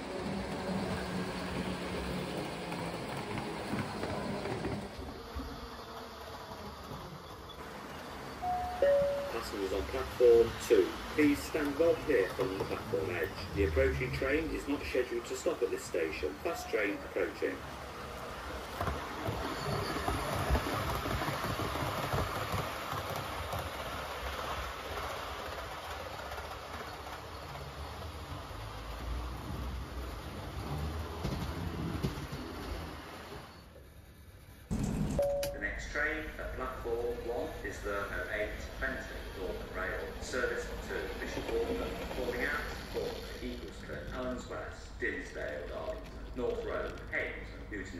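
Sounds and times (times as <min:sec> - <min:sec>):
wheel and track noise: 0:00.0 - 0:47.9.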